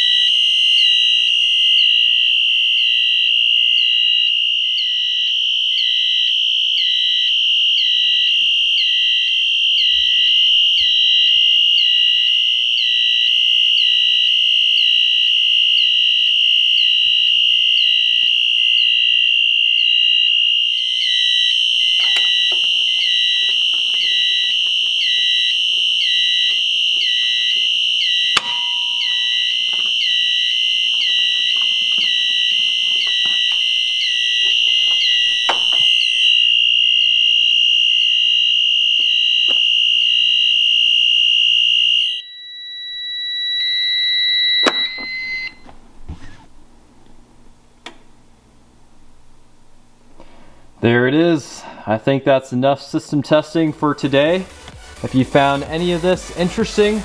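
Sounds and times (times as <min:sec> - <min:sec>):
high-pitched alarm horn: 0:00.0 - 0:45.6, 0:53.5 - 0:57.0.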